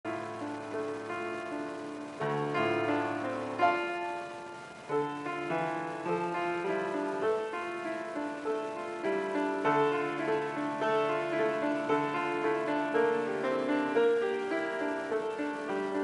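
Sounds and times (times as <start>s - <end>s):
slow piano music: 0.1s - 16.0s.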